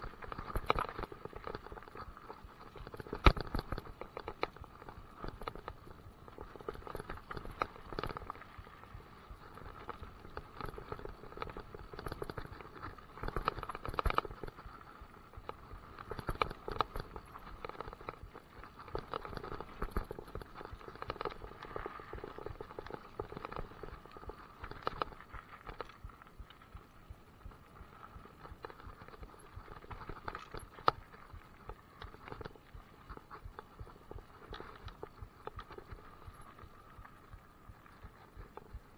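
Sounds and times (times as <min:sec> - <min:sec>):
bike rattling over bumps: 0:00.0 - 0:38.9
bike tyres crunching on gravel: 0:00.0 - 0:38.9.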